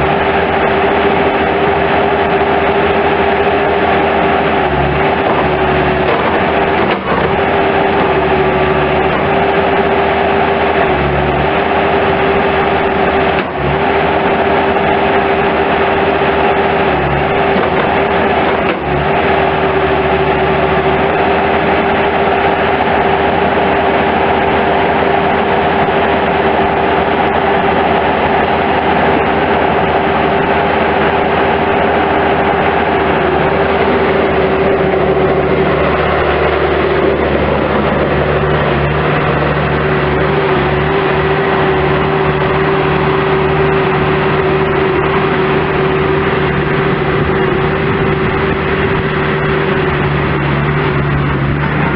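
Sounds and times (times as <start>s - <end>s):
diesel engine running: 0.0s - 51.9s
strong steady whine: 0.0s - 51.9s.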